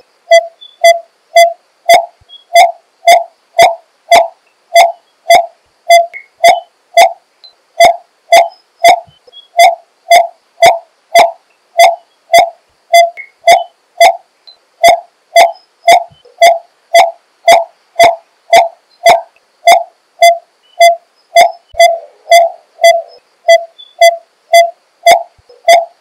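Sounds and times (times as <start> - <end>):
bird calling tuk notes: 0.3 - 7.2, 7.8 - 14.2, 14.8 - 26.0.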